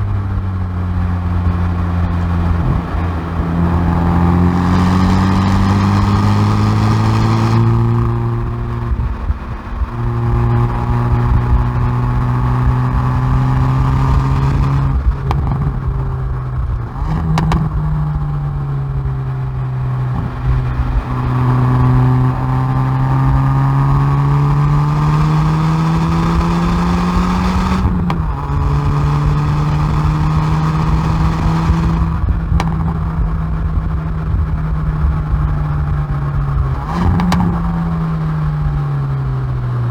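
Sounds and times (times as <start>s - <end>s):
car engine accelerating and shifting: 0.0s - 39.9s
exhaust cracks: 0.0s - 39.9s.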